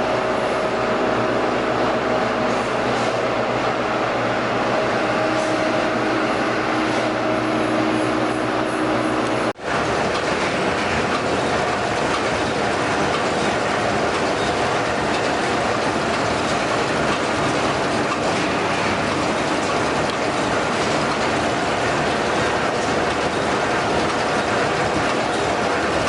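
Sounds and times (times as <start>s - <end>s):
welding machinery clattering: 2.5s - 26.0s.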